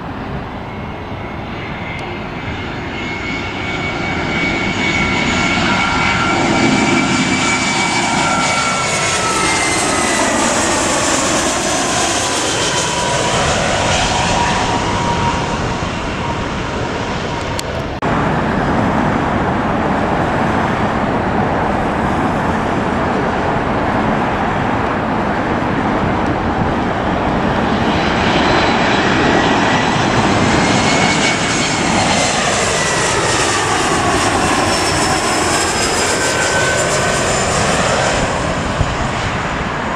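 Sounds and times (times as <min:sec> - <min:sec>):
jet engines whining overhead: 0:00.0 - 0:39.9
steady jet rumble: 0:00.0 - 0:39.9.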